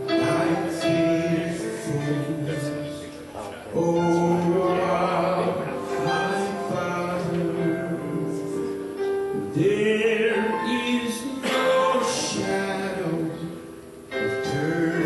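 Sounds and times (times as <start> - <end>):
instrumental accompaniment: 0.0 - 15.0
slow hymn singing: 0.0 - 15.0.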